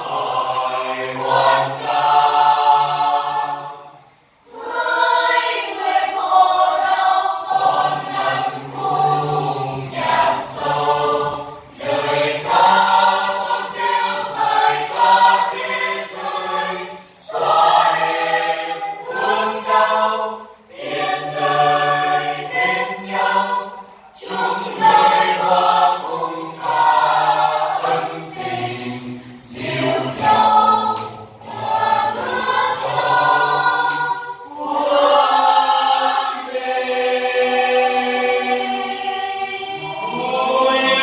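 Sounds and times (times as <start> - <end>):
mixed choir singing a hymn: 0.0 - 41.0.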